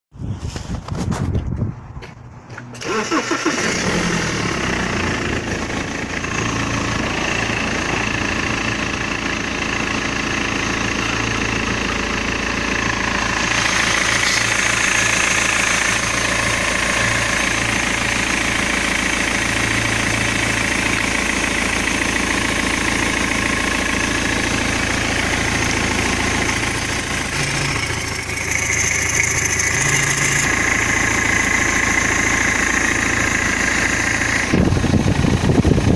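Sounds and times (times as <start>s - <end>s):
diesel engine starting and idling: 2.3s - 35.9s.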